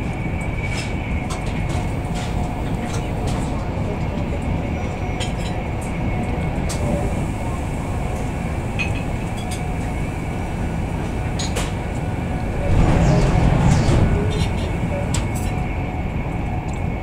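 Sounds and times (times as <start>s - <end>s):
passing train rush: 0.0s - 17.0s
train rumble inside coach: 0.0s - 17.0s.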